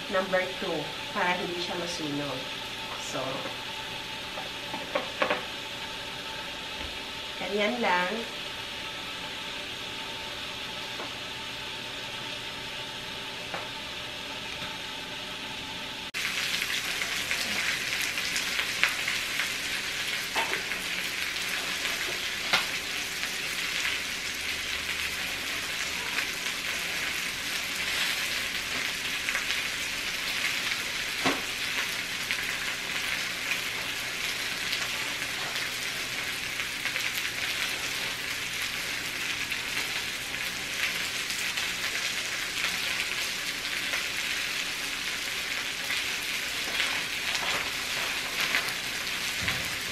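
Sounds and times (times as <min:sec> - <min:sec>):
meat sizzling on grill: 0:00.0 - 0:49.9.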